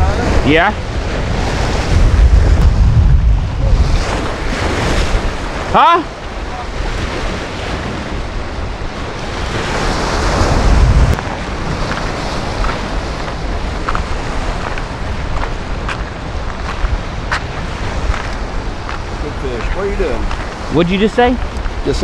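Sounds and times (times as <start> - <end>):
wind buffeting microphone: 0.0 - 22.0
waves splashing against rocks: 3.4 - 22.0.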